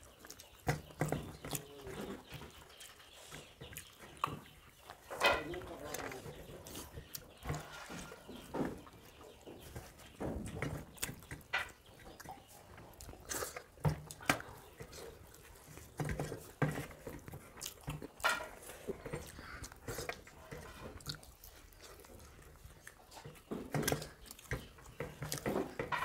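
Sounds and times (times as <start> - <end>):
chewing and lip-smacking: 0.0 - 7.7, 8.3 - 25.8.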